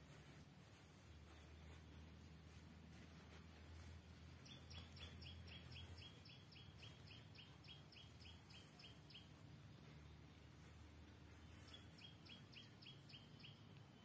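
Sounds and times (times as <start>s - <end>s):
bird chirping: 0.1s - 14.0s.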